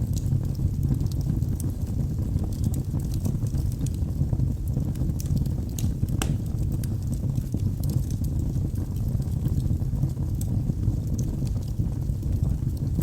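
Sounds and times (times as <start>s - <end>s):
low roar of flames: 0.0s - 13.0s
wood fire crackling and popping: 0.0s - 13.0s.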